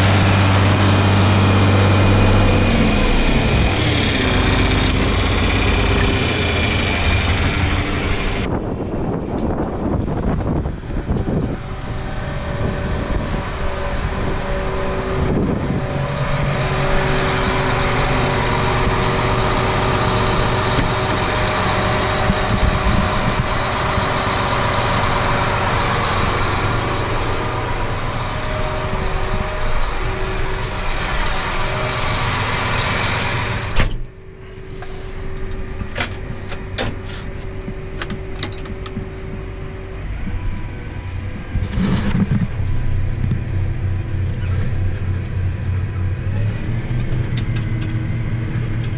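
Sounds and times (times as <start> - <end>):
engine hum: 0.0 - 48.9
loud mechanical rushing noise: 0.0 - 48.9.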